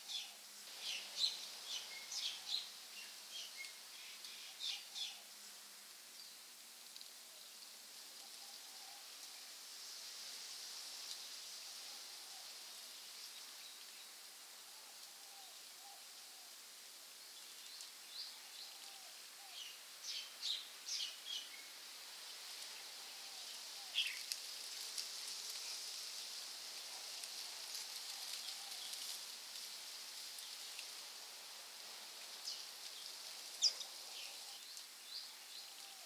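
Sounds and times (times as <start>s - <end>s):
steady high hiss: 0.0s - 36.0s.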